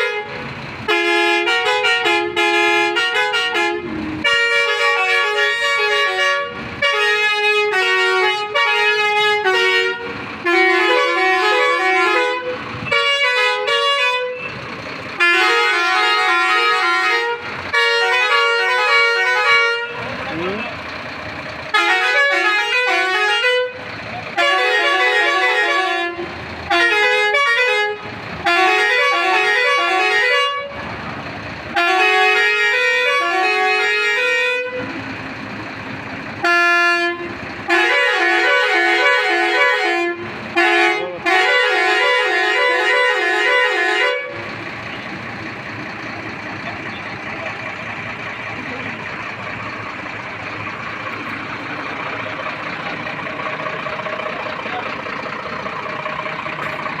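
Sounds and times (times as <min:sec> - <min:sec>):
truck musical horn tune: 0:00.0 - 0:31.0, 0:31.6 - 0:57.0.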